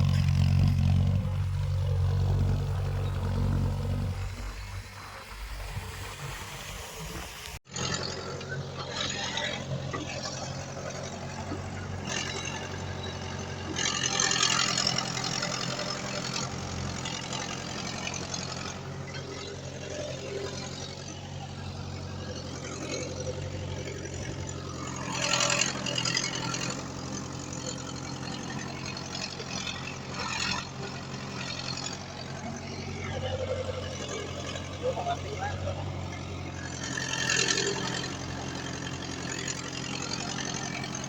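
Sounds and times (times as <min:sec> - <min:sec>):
heavy diesel machinery running: 0:00.0 - 0:06.6, 0:07.5 - 0:41.0.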